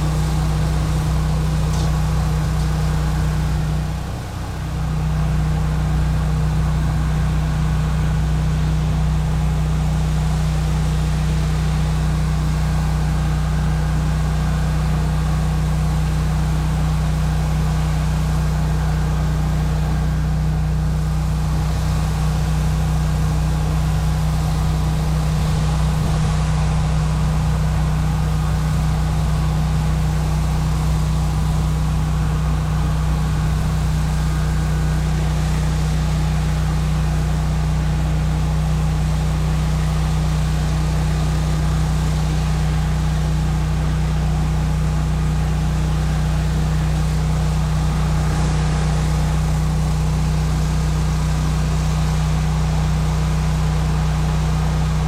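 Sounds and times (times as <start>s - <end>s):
pressure washer engine running: 0.0s - 55.0s.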